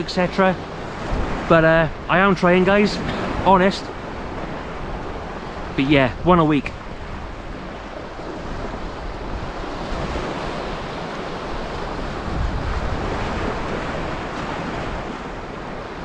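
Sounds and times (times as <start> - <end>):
small waves washing on shore: 0.0 - 16.0
wind buffeting microphone: 0.0 - 16.0.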